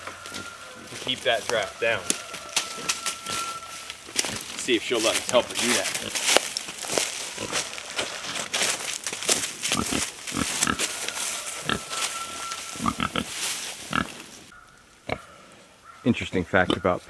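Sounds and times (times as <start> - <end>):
pigs grunting: 0.0 - 6.3, 7.2 - 8.7, 9.5 - 14.3, 15.0 - 17.0
straw crackling and rustling: 0.0 - 15.2.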